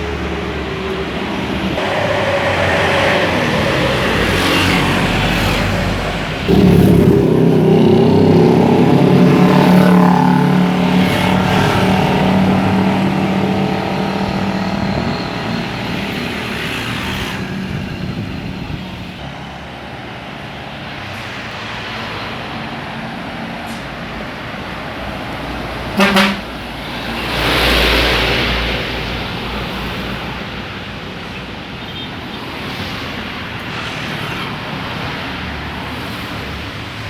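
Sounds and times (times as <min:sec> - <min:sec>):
bus engine passing: 0:00.0 - 0:37.0.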